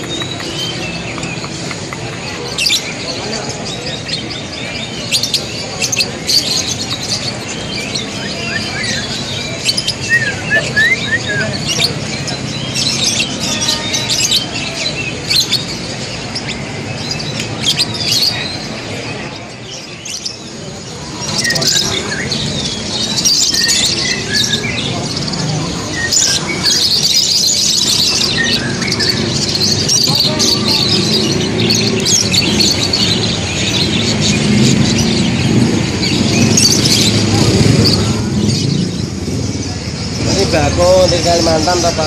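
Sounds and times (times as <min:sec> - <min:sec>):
murmur of crowd voices: 0:00.0 - 0:42.0
songbirds chirping and whistling: 0:00.0 - 0:42.0.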